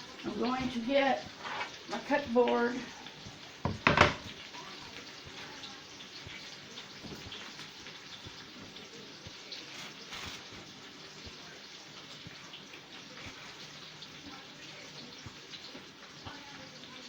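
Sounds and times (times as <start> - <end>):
meat sizzling in a skillet: 0.0 - 17.0
crackling grease pops: 0.1 - 14.4.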